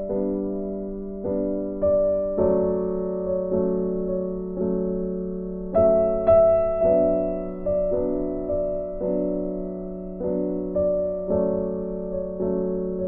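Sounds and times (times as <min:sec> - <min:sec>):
slow piano tune: 0:00.0 - 0:13.0.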